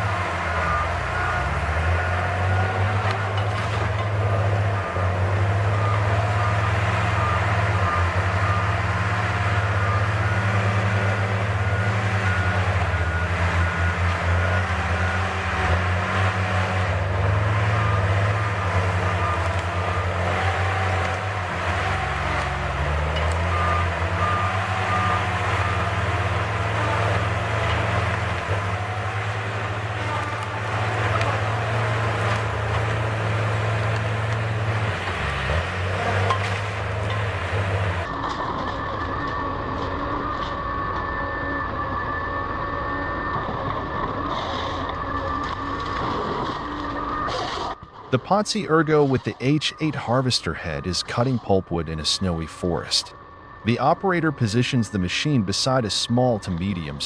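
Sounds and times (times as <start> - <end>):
warning beeps: 0.0 - 38.1, 48.2 - 57.0
diesel engine under load: 0.0 - 57.0
hydraulic whine: 0.0 - 57.0.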